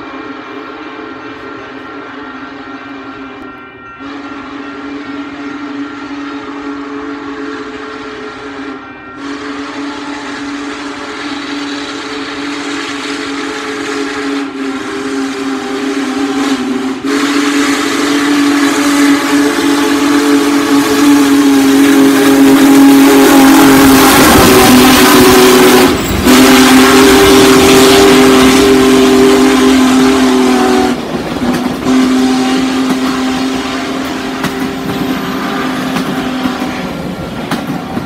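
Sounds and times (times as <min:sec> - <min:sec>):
locomotive hiss and rumble: 0:00.0 - 0:38.0
steam locomotive whistle: 0:00.0 - 0:38.0.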